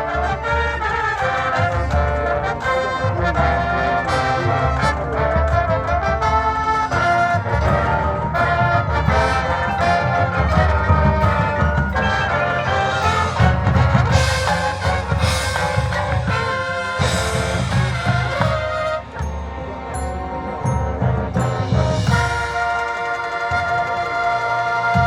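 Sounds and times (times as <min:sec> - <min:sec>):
brass line playing loud chords: 0:00.0 - 0:25.0
pounding percussion: 0:00.0 - 0:25.0.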